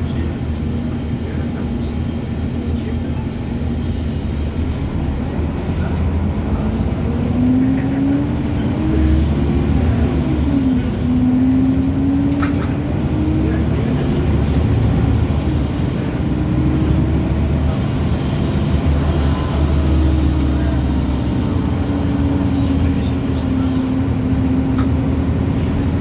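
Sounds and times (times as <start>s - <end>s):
low drivetrain and road rumble: 0.0s - 26.0s.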